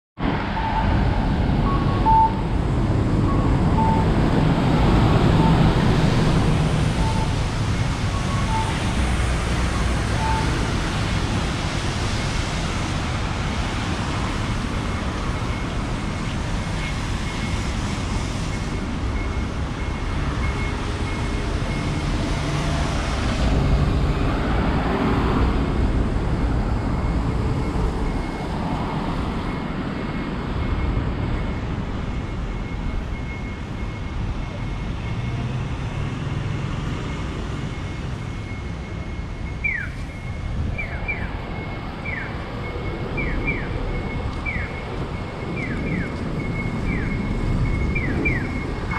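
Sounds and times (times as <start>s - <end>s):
road traffic noise: 0.2s - 48.9s.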